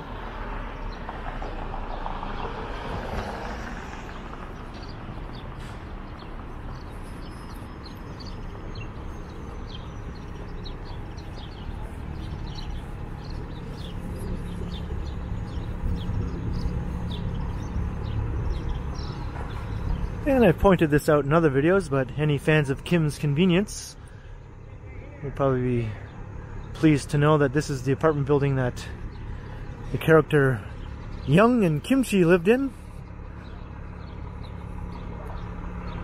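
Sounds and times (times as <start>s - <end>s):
city street traffic: 0.0s - 36.0s.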